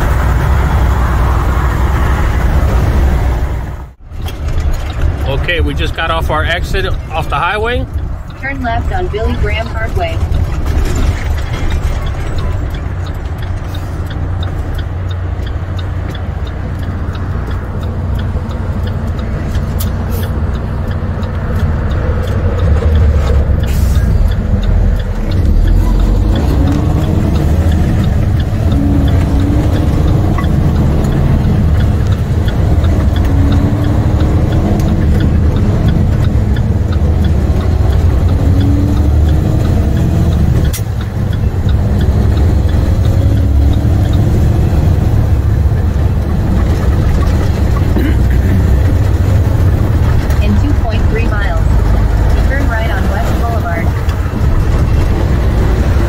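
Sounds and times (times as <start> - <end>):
diesel truck engine accelerating: 0.0 - 56.0.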